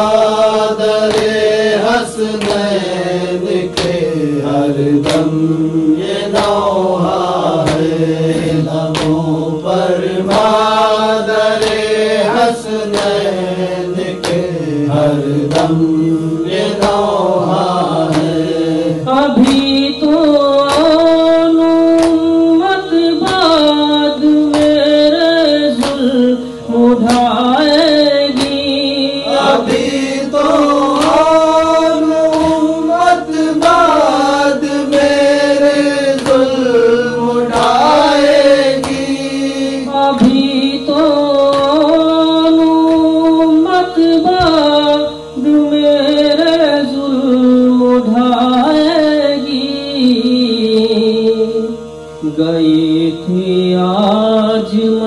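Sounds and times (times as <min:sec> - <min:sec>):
man chanting a lament: 0:00.0 - 0:55.0
steady held drone: 0:00.0 - 0:55.0.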